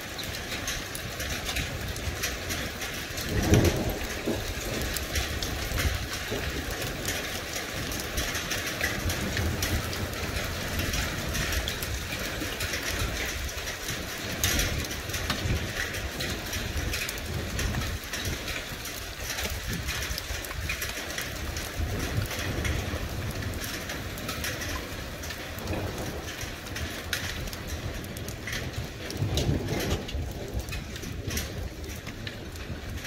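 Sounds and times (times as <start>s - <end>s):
rain and hail falling hard: 0.0s - 33.0s
thunder rumbling: 0.0s - 33.0s.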